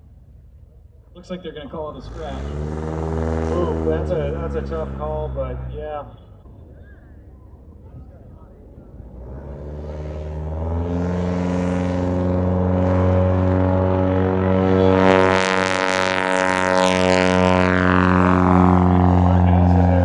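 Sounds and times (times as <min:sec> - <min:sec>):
propeller airplane engine drone: 0:00.0 - 0:20.0
rushing noise of passing plane: 0:01.8 - 0:20.0.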